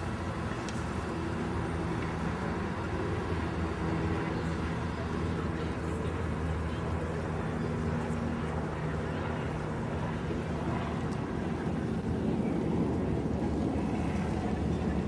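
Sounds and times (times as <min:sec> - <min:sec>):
faint continuous hum: 0:00.0 - 0:15.0
low urban rumble: 0:00.0 - 0:15.0.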